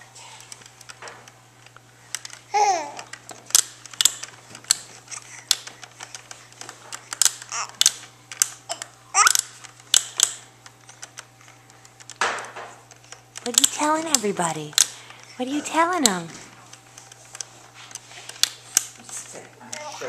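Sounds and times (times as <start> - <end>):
plastic toys clicking: 0.4 - 19.9.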